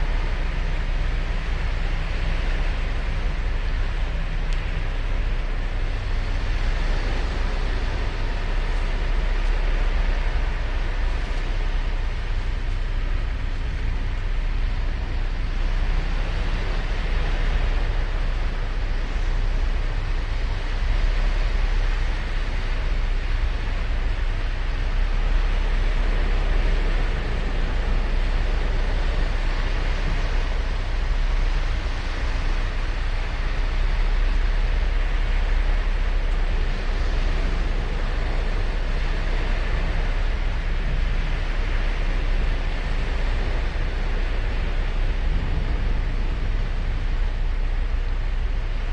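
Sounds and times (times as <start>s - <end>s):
low surf rumble: 0.0s - 48.9s
waves breaking on beach: 0.0s - 48.9s.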